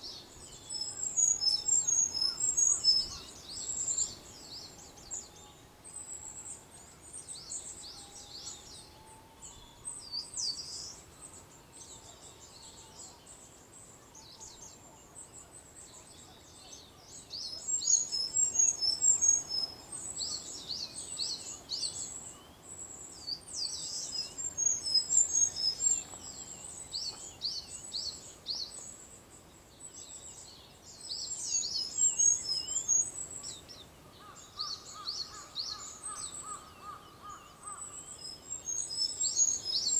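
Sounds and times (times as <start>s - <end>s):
faint outdoor background hiss: 0.0s - 39.9s
songbirds chirping: 0.0s - 39.9s.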